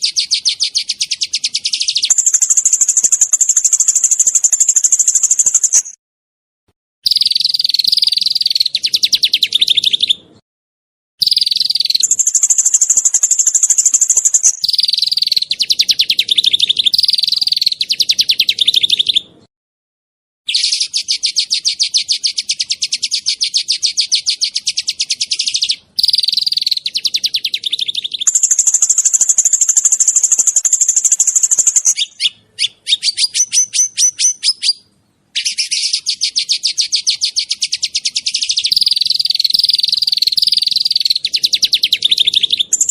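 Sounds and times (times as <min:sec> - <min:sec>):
songbird fast trills: 0:00.0 - 0:06.0, 0:07.0 - 0:10.2, 0:11.2 - 0:19.3, 0:20.5 - 0:42.9.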